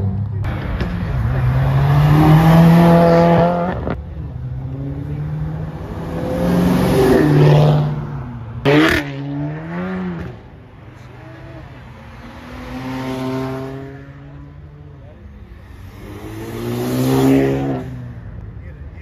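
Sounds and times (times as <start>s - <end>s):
cars accelerating hard: 0.0s - 19.0s.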